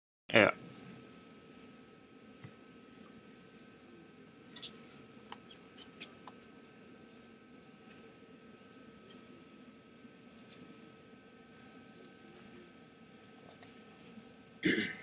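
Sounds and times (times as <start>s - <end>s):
crickets chirping: 0.3s - 15.0s.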